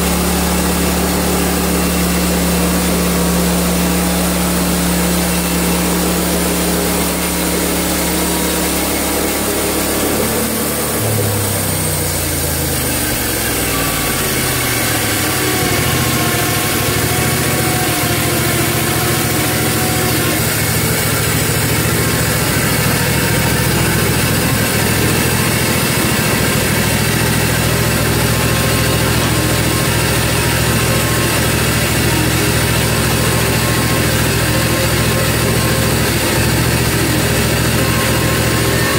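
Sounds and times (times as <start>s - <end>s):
small gasoline engine running: 0.0s - 38.9s.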